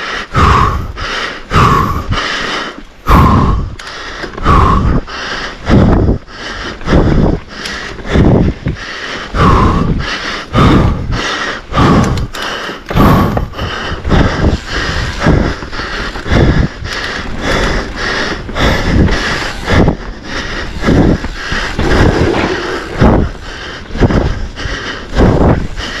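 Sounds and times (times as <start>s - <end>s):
person panting heavily: 0.0s - 26.0s.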